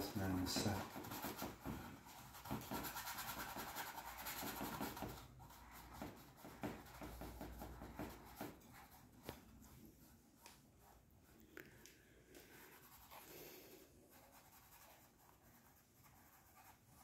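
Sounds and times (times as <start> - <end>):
brush scrubbing on canvas: 0.0 - 11.4, 12.4 - 17.0.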